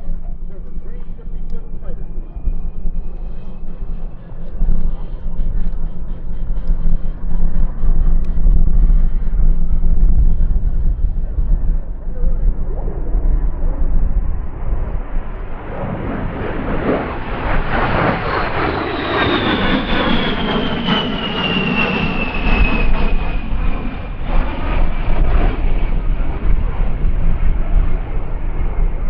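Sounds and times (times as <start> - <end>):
jet engines passing: 0.0 - 29.0.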